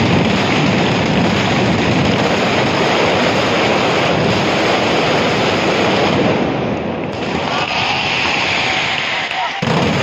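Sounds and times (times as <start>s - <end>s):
rapid firecracker bangs: 0.0s - 10.0s.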